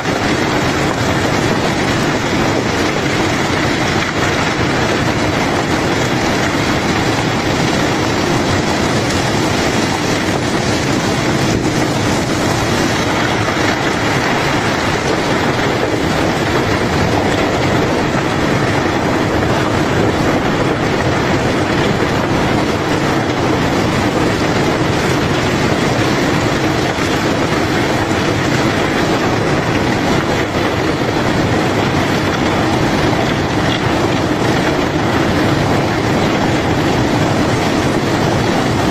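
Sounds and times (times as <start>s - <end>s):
machinery rumbling and rattling: 0.0s - 38.9s.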